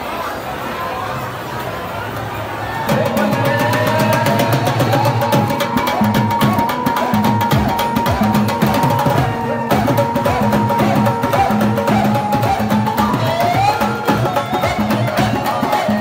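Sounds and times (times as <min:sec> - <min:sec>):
dholak drum beating: 0:02.8 - 0:16.0.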